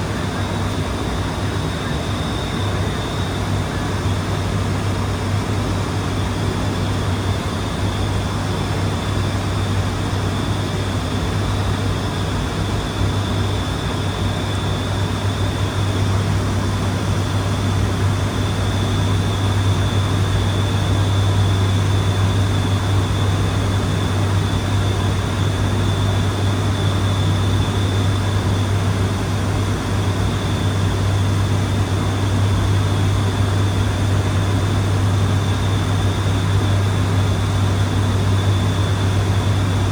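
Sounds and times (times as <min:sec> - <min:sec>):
turboprop engines droning in flight: 0:00.0 - 0:39.9.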